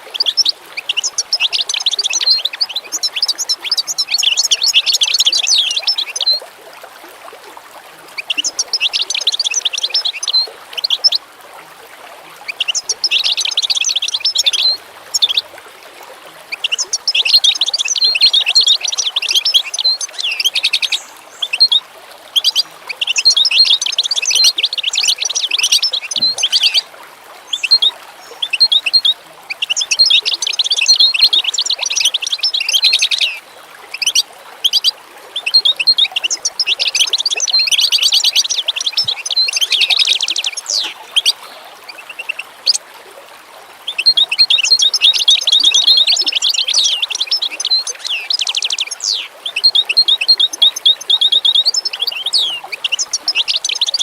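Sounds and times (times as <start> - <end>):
songbird twittering: 0.0 - 6.4, 8.2 - 11.2, 12.5 - 15.5, 16.5 - 26.8, 27.5 - 42.8, 43.9 - 54.0.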